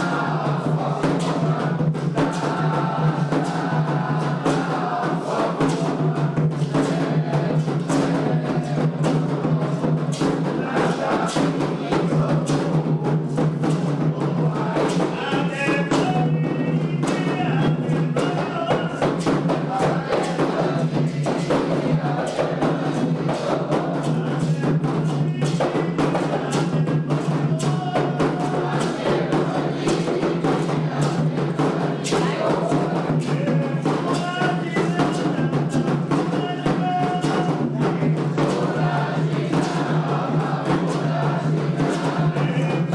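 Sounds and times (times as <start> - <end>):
hand drums playing: 0.0 - 42.9
voices singing: 0.0 - 42.9.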